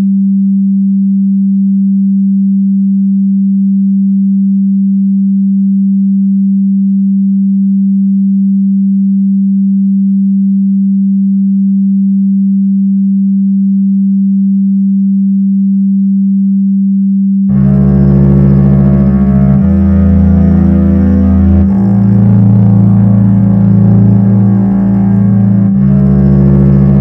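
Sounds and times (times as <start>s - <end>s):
low sine tone: 0.0s - 27.0s.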